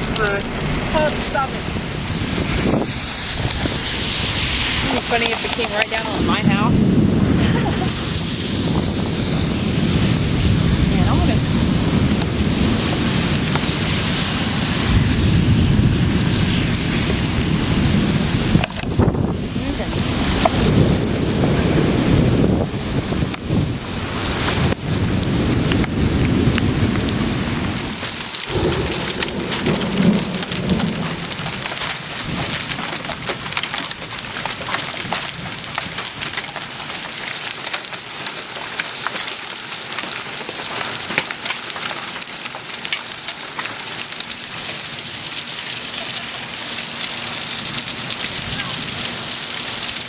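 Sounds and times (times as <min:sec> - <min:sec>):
thunder rumbling: 0:00.0 - 0:41.1, 0:41.8 - 0:50.0
heavy rain falling: 0:00.0 - 0:50.0.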